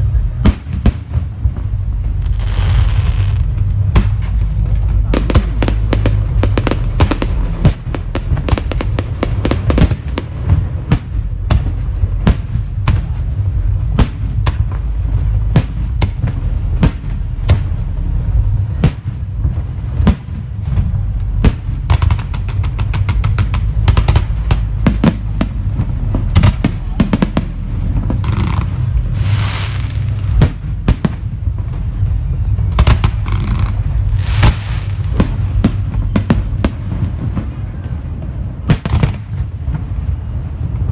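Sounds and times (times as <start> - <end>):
firework hiss: 0.0 - 40.9
fireworks bangs and crackles: 0.0 - 40.9
low rumble: 0.0 - 40.9.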